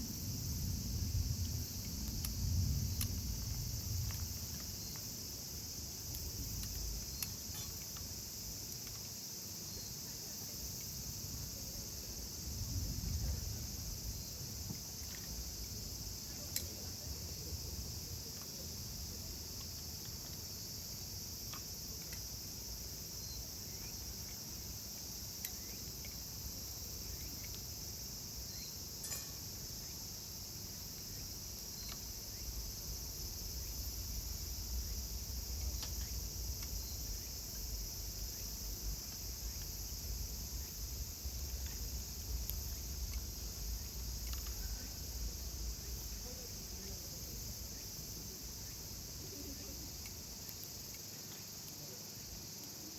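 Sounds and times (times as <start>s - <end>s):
insects chorus: 0.0s - 52.9s.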